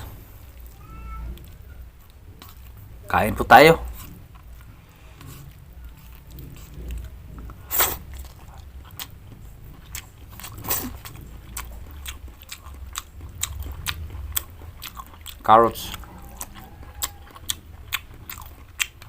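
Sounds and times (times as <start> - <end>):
chewing and biting vegetables: 1.4 - 2.9, 3.9 - 19.0.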